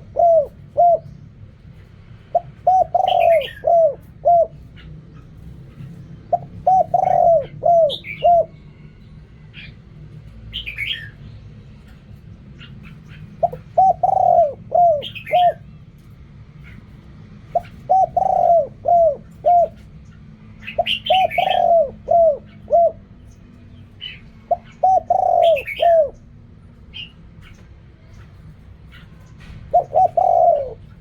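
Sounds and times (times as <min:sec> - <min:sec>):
dove cooing: 0:00.0 - 0:09.8, 0:12.6 - 0:23.4, 0:24.0 - 0:27.7, 0:28.4 - 0:31.0
small birds chirping: 0:00.0 - 0:31.0.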